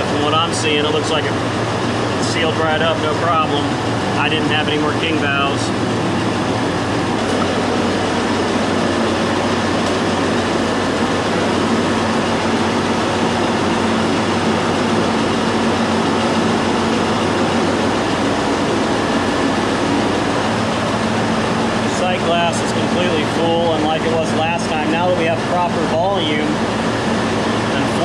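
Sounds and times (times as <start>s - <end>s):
compressor motor hum: 0.0s - 28.0s
fan air rushing: 0.0s - 28.0s.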